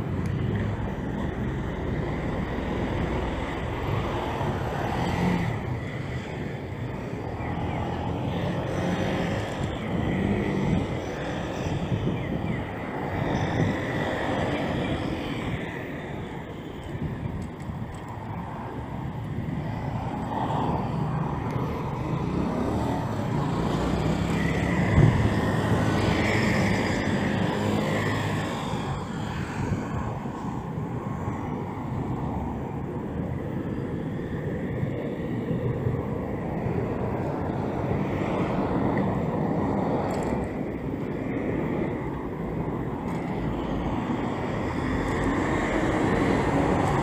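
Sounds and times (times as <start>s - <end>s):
cars and scooters passing: 0.0s - 47.0s
wind rumbling on microphone: 0.0s - 47.0s.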